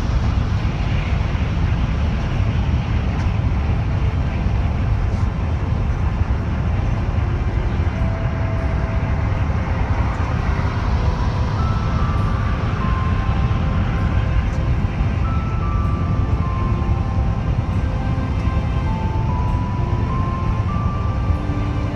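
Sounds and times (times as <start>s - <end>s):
vehicle rumble: 0.0s - 21.9s.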